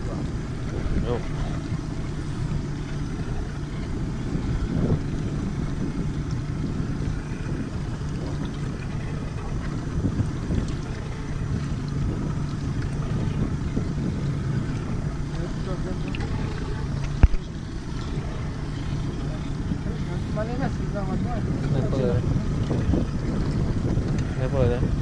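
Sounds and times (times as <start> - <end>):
boat engine hum: 0.0 - 25.0
wind buffeting microphone: 0.0 - 25.0.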